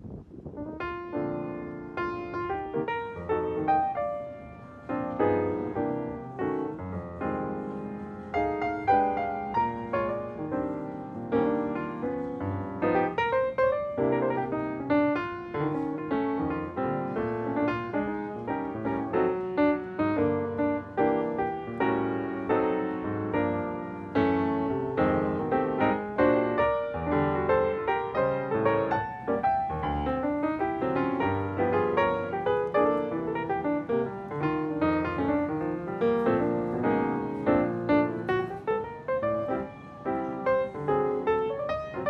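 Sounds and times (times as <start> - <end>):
solo piano music: 0.0 - 42.0.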